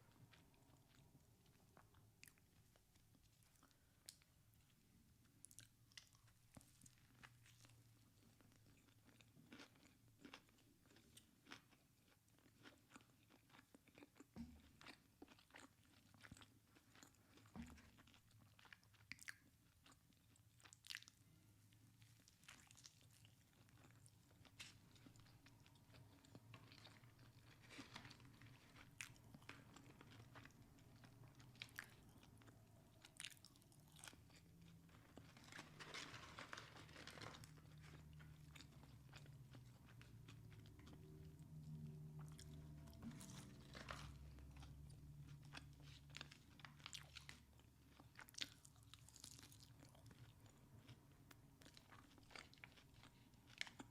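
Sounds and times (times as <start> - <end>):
crunchy food chewing: 5.4 - 21.2, 22.0 - 53.9.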